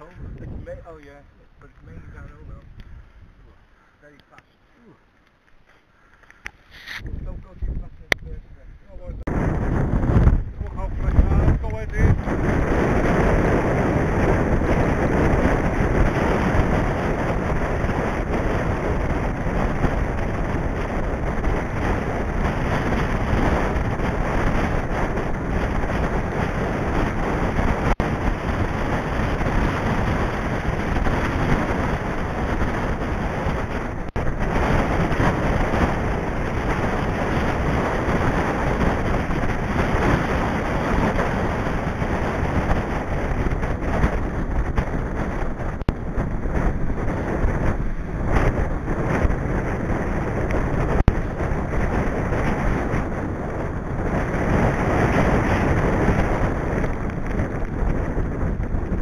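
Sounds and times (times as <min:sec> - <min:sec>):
wind buffeting microphone: 0:00.0 - 0:05.0, 0:05.9 - 0:59.0.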